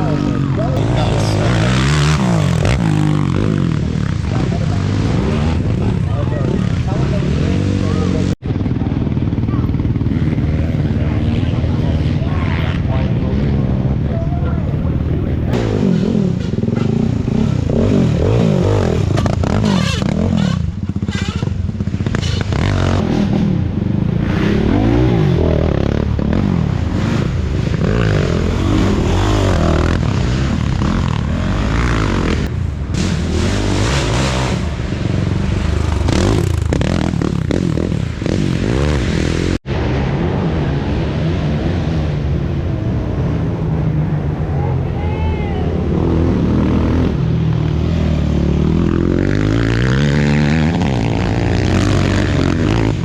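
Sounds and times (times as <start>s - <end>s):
quad engines revving: 0.0s - 39.6s, 45.7s - 53.0s.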